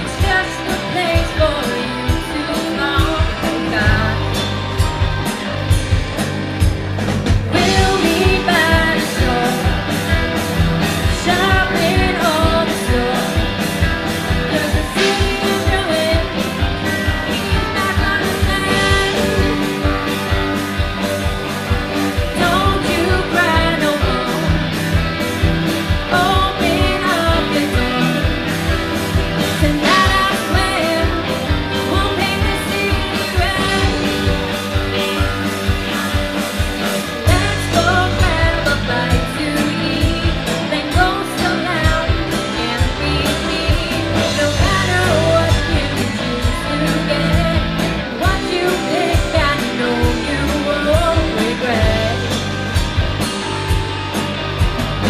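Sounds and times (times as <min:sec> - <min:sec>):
woman singing: 0:00.0 - 0:04.5, 0:07.5 - 0:20.9, 0:21.8 - 0:25.1, 0:25.8 - 0:35.3, 0:37.0 - 0:52.5
rock band playing: 0:00.0 - 0:55.0.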